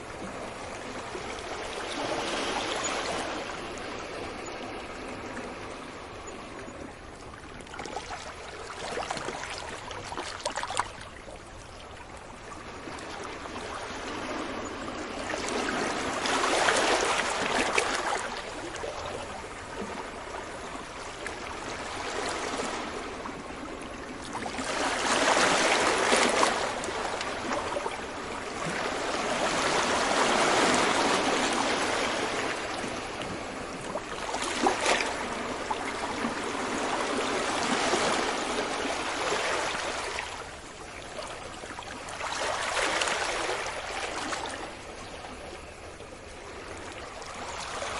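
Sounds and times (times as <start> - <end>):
ocean waves breaking on beach: 0.0 - 11.5, 12.3 - 47.9.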